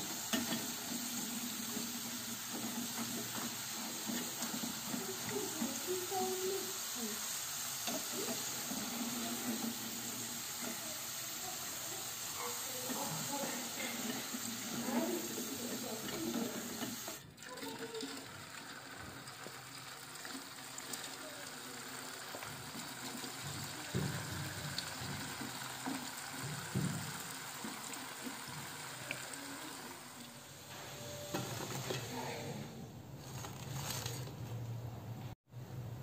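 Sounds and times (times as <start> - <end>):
potatoes sizzling and bubbling in oil: 0.0 - 32.2.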